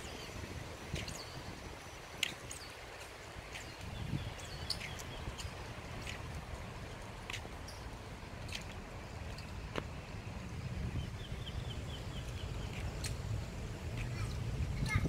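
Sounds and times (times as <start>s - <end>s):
footsteps on pavement: 0.0s - 15.0s.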